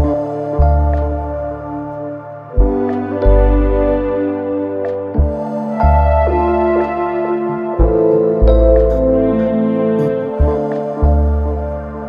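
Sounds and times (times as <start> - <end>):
deep bass line: 0.0 - 12.0
keyboard chords: 0.0 - 12.0.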